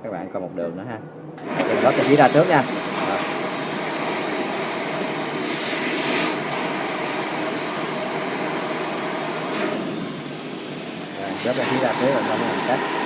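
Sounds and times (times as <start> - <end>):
compressed air hissing from torch: 1.4 - 13.0.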